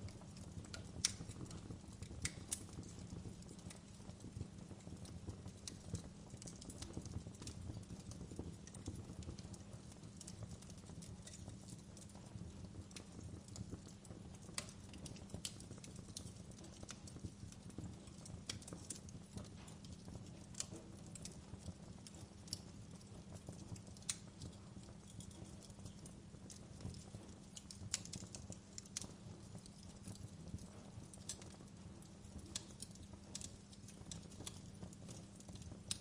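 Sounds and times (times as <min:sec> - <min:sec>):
low steady rumble of fire: 0:00.0 - 0:36.0
sharp pops and snaps of fire: 0:00.0 - 0:36.0
wood fire crackling: 0:00.0 - 0:36.0.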